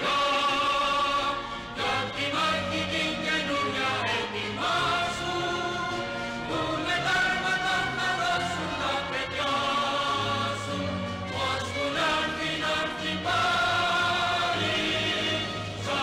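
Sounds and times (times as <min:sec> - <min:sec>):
voices singing long notes: 0:00.0 - 0:16.0.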